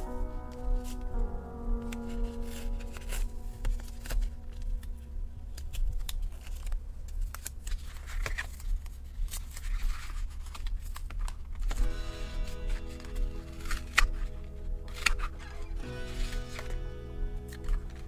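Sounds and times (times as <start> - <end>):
low steady hum: 0.0 - 18.0
paper scraping and rustling: 1.8 - 4.9, 5.5 - 18.0.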